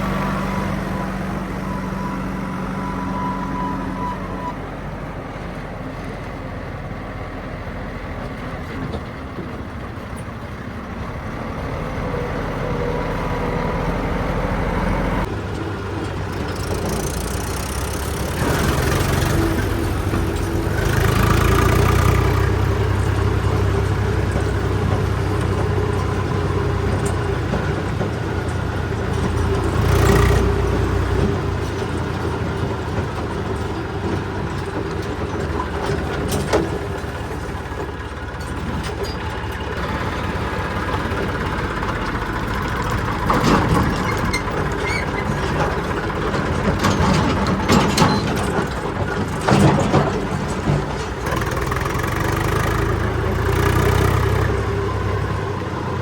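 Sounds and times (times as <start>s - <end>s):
diesel machinery engines running: 0.0s - 56.0s.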